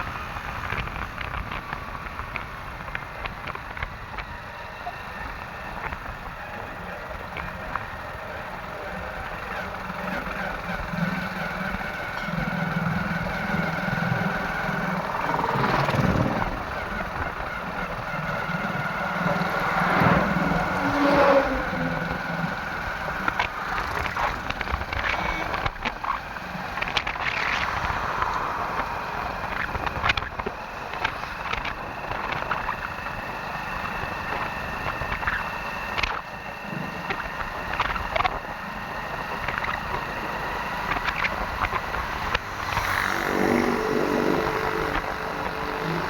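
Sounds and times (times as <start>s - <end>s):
construction machinery engines running: 0.0s - 46.0s.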